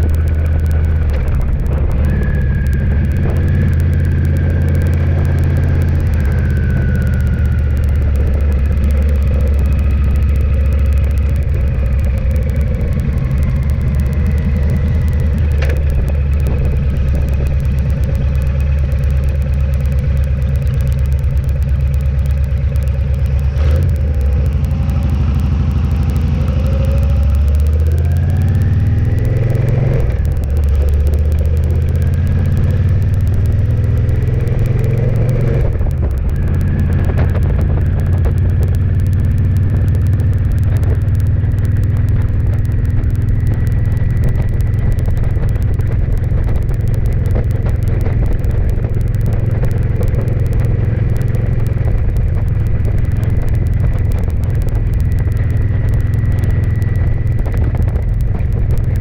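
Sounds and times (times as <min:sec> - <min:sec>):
road noise: 0:00.0 - 0:59.0
vehicle engine accelerating: 0:00.0 - 0:59.0.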